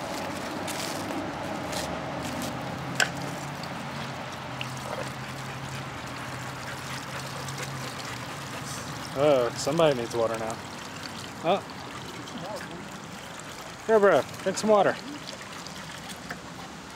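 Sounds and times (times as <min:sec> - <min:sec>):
water trickling into metal bowl: 0:02.3 - 0:16.9.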